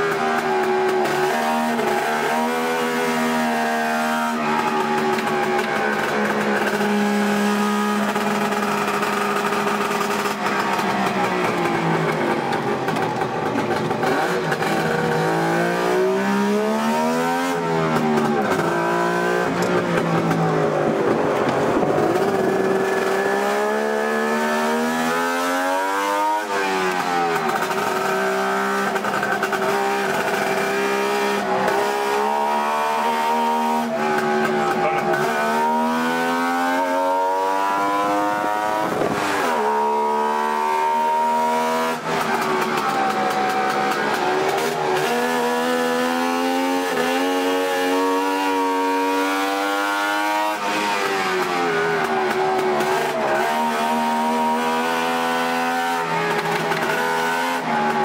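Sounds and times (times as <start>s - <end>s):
two-stroke car engine revving: 0.0s - 58.0s.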